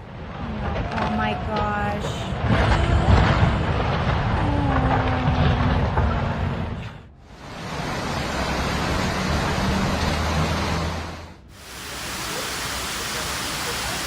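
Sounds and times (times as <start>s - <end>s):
rushing storm noise: 0.0s - 14.0s
low engine hum: 2.6s - 14.0s.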